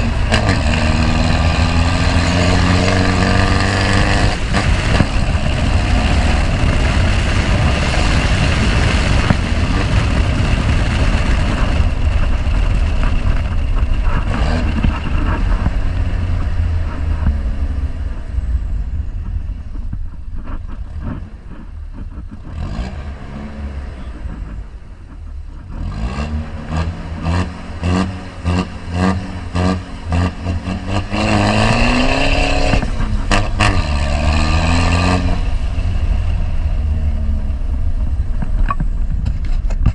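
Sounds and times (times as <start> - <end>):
engine throttle blips and revving: 0.0 - 39.9
loud pickup engine running: 0.0 - 39.9.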